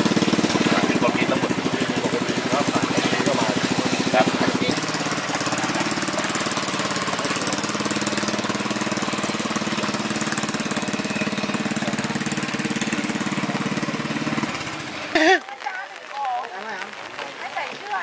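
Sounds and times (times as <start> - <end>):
small boat motor running: 0.0 - 15.5.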